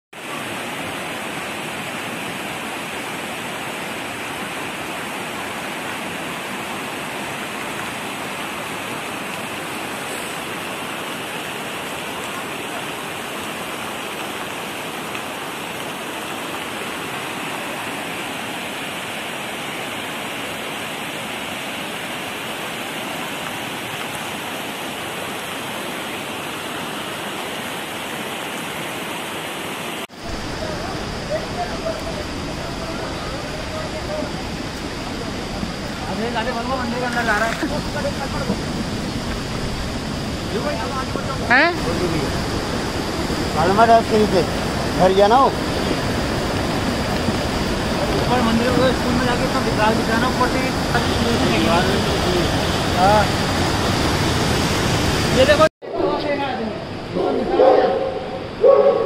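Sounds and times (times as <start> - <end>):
floodwater rushing with debris: 0.1 - 59.0.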